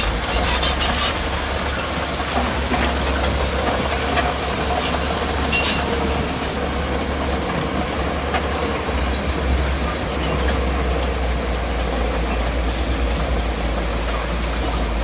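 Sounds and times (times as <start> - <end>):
diesel engine rumbling: 0.0 - 15.0
steel tracks clanking and squeaking: 0.0 - 15.0.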